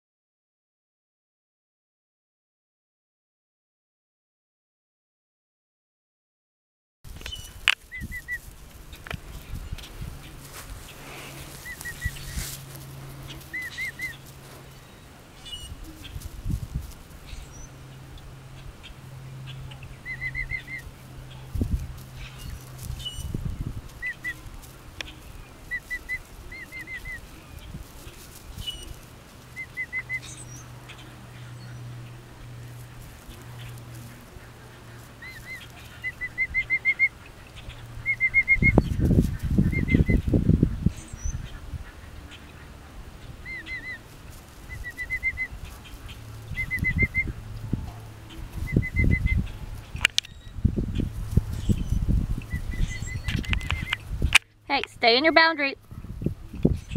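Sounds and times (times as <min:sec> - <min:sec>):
chicks peeping: 0:07.1 - 0:56.9.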